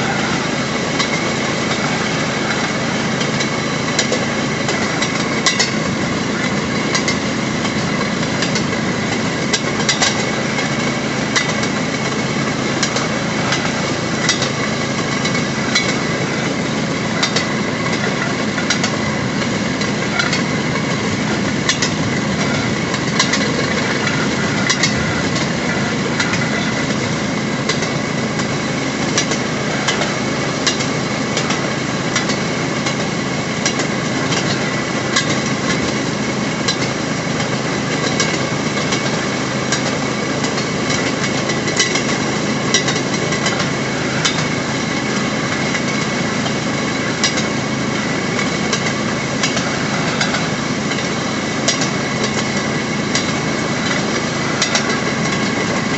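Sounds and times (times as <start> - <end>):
wheels clicking over rail joints: 0.0 - 55.9.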